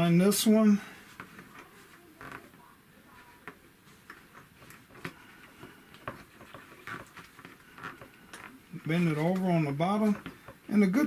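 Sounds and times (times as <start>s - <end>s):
faint clicks and rustles of hands: 0.1s - 11.0s.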